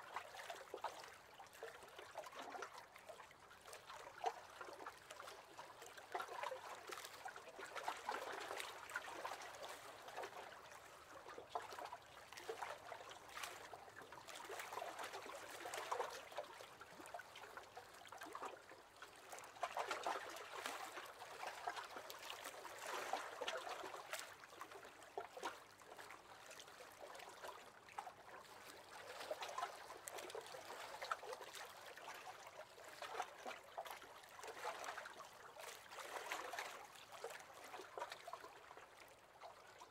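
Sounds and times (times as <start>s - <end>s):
waves lapping against boat: 0.2s - 39.7s.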